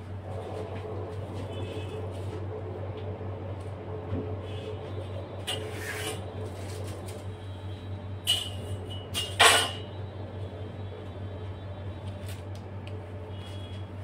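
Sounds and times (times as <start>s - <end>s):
low hum: 0.0s - 13.8s.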